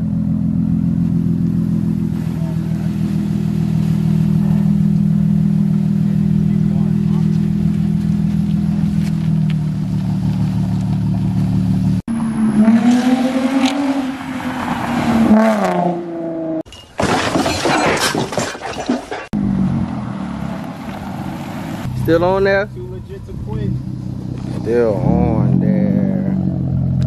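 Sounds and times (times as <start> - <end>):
car accelerating: 0.0 - 16.6, 19.4 - 27.0
car exhaust droning: 0.0 - 16.6, 19.4 - 27.0.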